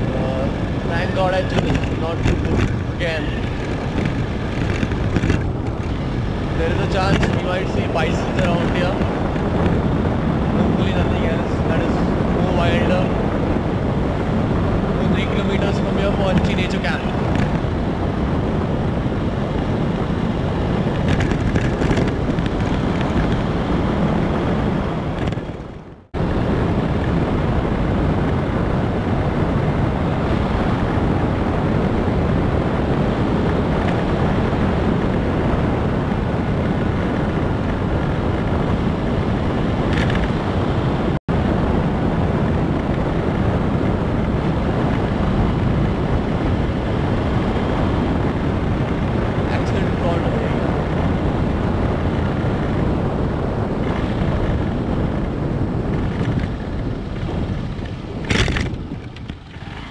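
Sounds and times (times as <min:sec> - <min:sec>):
motorcycle engine and road noise: 0:00.0 - 0:59.9
wind rushing over microphone: 0:00.0 - 0:59.9.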